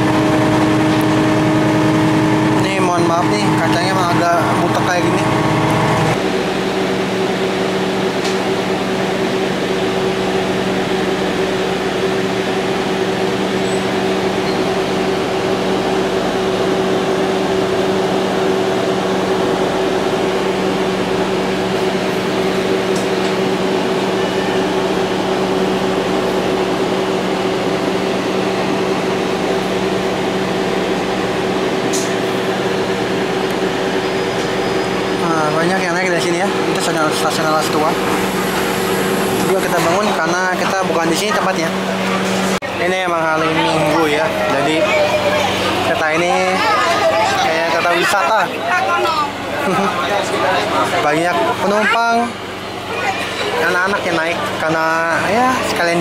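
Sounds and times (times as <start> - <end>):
train engine hum: 0.0 - 56.0
train running noise: 0.0 - 56.0.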